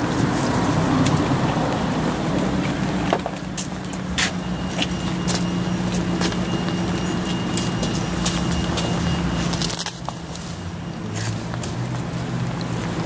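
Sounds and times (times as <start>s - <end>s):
motor vehicle engine rumbling: 0.0s - 13.0s.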